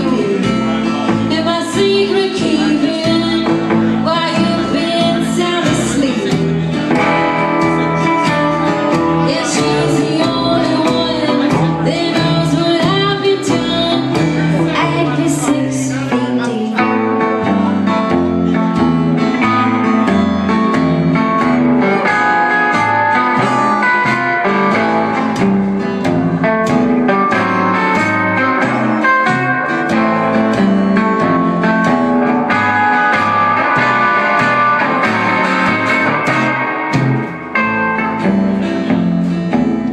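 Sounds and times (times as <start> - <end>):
live band playing country blues: 0.0 - 39.9.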